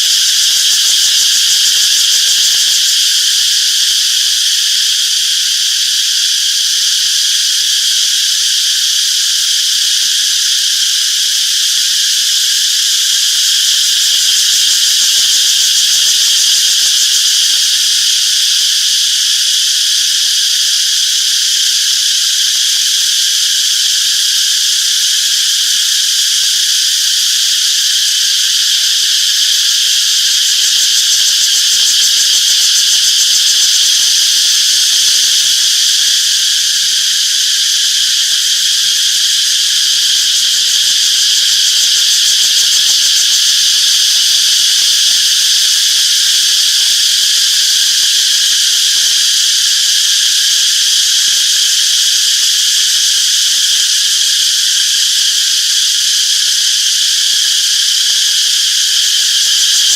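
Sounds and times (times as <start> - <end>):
cicadas singing: 0.0 - 59.9.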